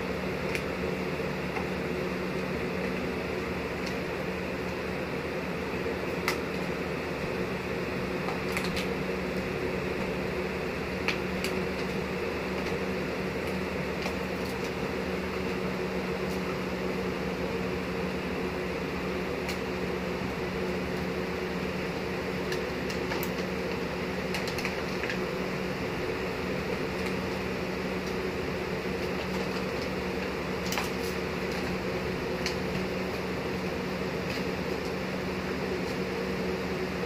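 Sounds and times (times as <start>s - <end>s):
box fan whirring hum: 0.0s - 37.0s.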